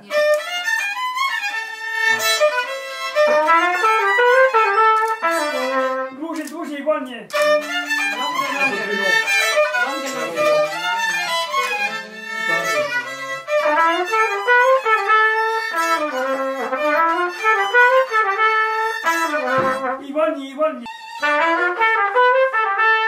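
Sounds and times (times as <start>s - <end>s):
trumpet playing: 0.0s - 6.5s, 7.3s - 23.0s
fiddles playing folk tune: 0.0s - 6.7s, 7.3s - 23.0s.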